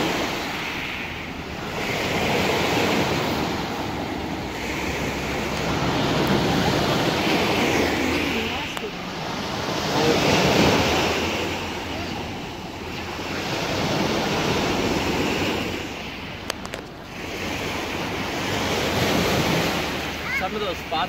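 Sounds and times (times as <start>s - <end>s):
waves washing onto rocky shore: 0.0s - 21.0s
wind buffeting microphone: 0.0s - 21.0s.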